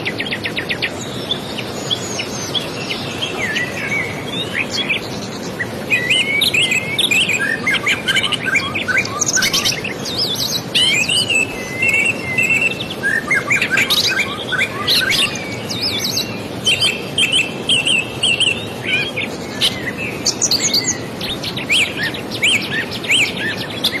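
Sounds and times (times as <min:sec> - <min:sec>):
birds chirping and trilling: 0:00.0 - 0:24.0.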